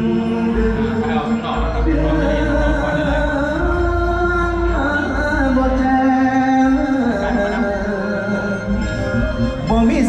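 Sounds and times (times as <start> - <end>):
low musical accompaniment: 0.0 - 10.0.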